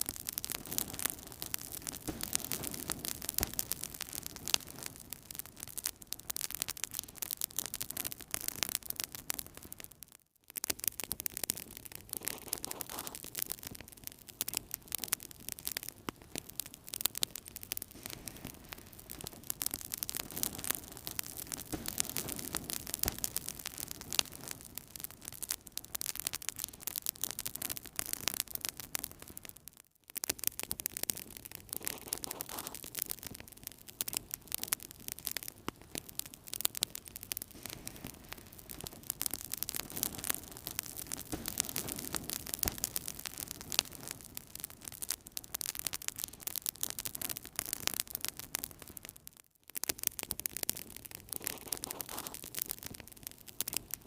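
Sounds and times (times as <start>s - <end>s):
hiss of burning: 0.0s - 9.8s, 10.6s - 29.5s, 30.3s - 49.0s, 49.9s - 54.0s
wood fire crackling and popping: 0.0s - 54.0s.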